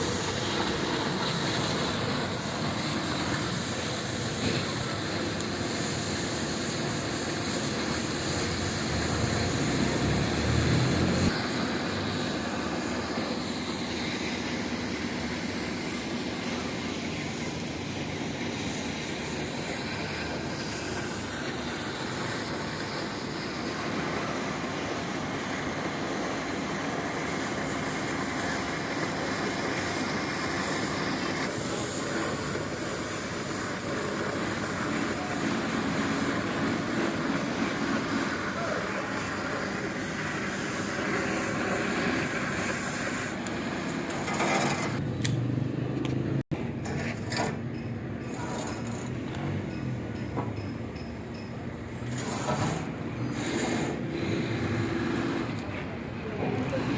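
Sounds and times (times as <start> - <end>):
cutting torch hissing: 0.0 - 45.0, 52.0 - 55.7.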